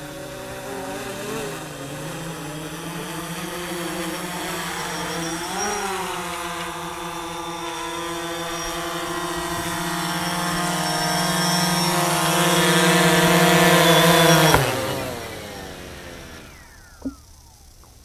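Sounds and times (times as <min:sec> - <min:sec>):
drone propellers humming: 0:00.0 - 0:18.0.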